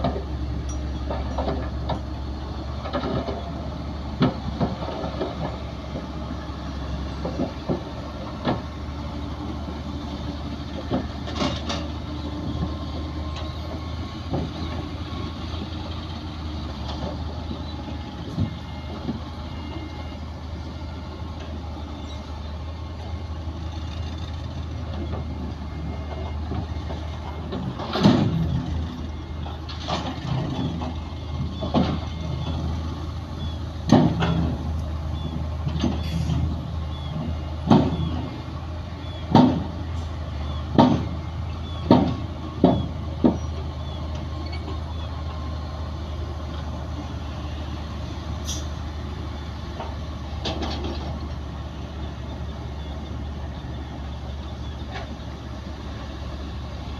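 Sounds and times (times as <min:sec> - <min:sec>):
diesel machines droning: 0:00.0 - 0:56.9.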